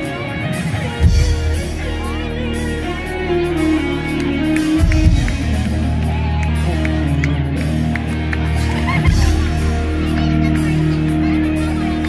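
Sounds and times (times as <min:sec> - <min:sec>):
live rock band: 0:00.0 - 0:12.0.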